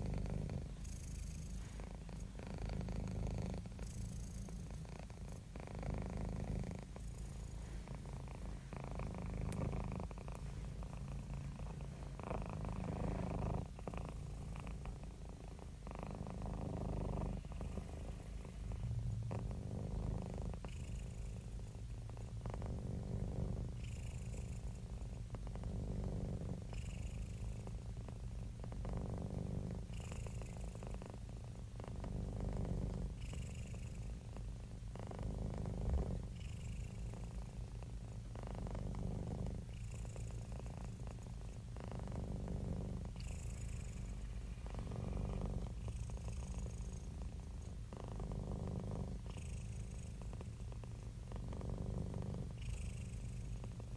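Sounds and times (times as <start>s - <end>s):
cat purring: 0.0s - 53.9s.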